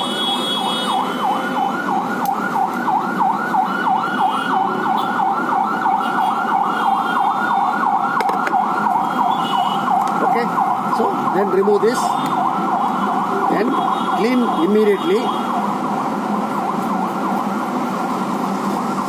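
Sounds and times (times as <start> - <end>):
electronic siren-like warbling tone: 0.0 - 15.6, 16.4 - 19.0.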